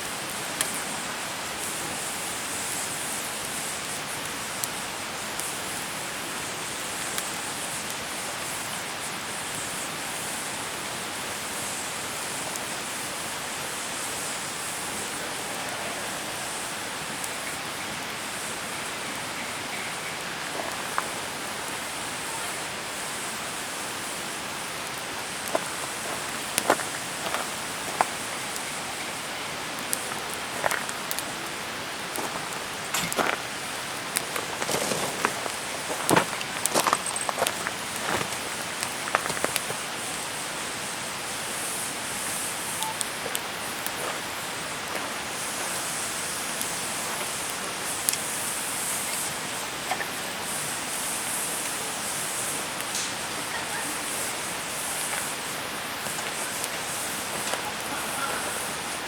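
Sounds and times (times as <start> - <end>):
fire crackles and pops: 0.0 - 59.0
wood fire hissing: 0.0 - 59.0.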